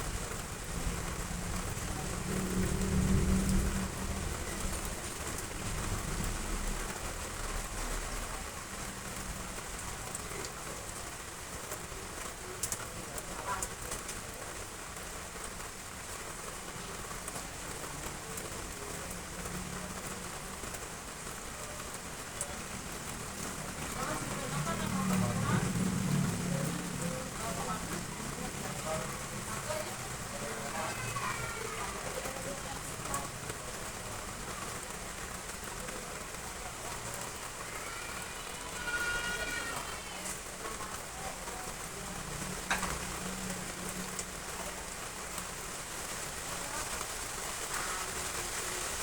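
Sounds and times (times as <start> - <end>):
heavy rain on roof tiles: 0.0 - 49.0.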